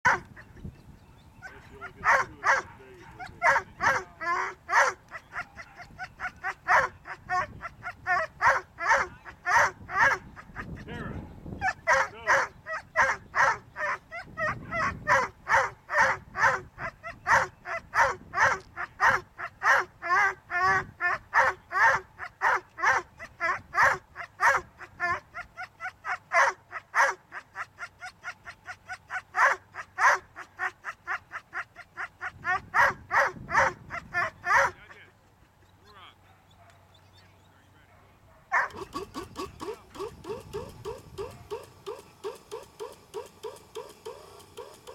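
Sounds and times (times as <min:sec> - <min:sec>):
dogs yelping: 0:00.0 - 0:00.7, 0:01.4 - 0:37.0, 0:38.4 - 0:44.9.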